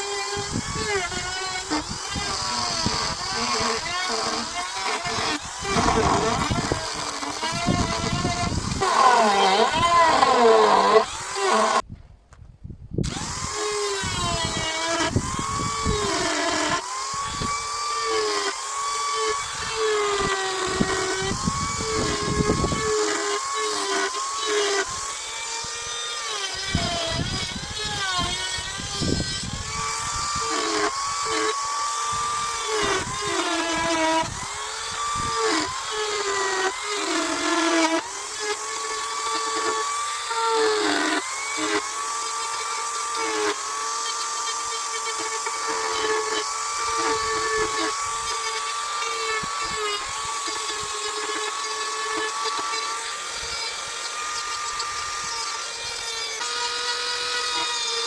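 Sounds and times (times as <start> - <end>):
chainsaw cutting wood: 0.0 - 11.9, 13.0 - 58.0.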